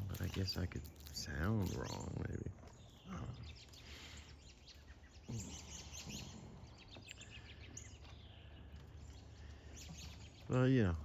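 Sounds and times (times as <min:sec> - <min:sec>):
faint bird chirps: 0:01.2 - 0:11.0.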